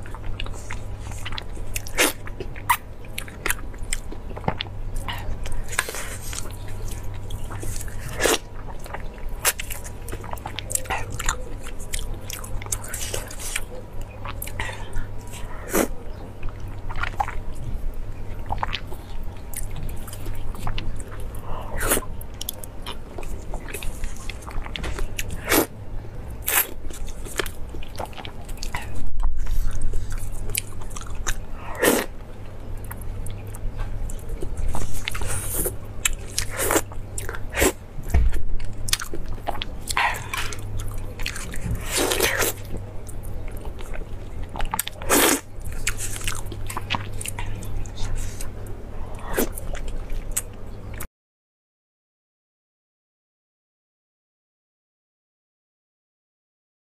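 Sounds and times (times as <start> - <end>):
person chewing fish: 0.0 - 51.1.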